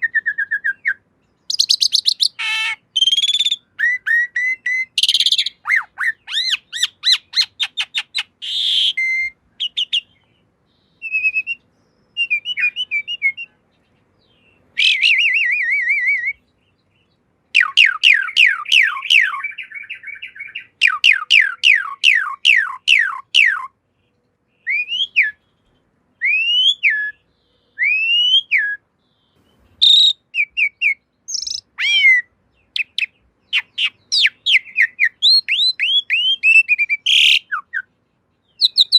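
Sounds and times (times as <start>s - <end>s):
starling singing whistles and chatter: 0.0s - 23.8s, 24.6s - 38.9s.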